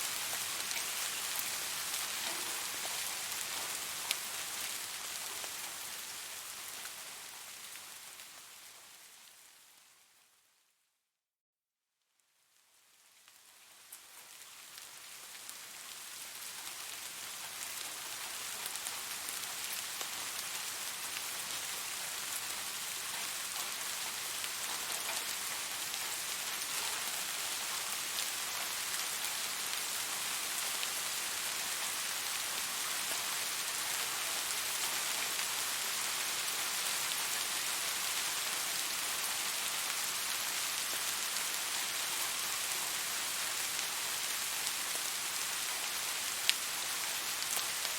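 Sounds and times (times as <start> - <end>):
rainfall hissing: 0.0 - 8.1, 14.3 - 47.9.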